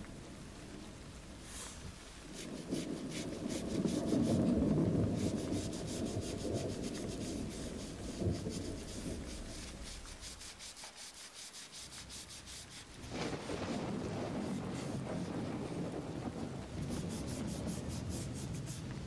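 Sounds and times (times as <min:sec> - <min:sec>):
sandpaper rubbing: 0:01.5 - 0:15.4, 0:16.8 - 0:19.0.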